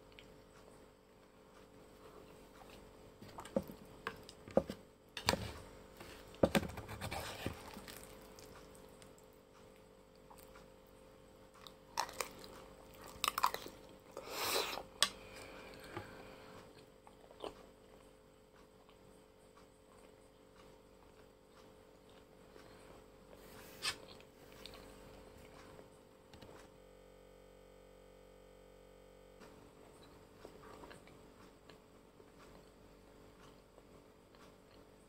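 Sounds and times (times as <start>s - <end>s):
person chewing and eating: 1.4s - 4.8s, 5.5s - 10.8s, 11.5s - 25.8s, 29.8s - 34.9s.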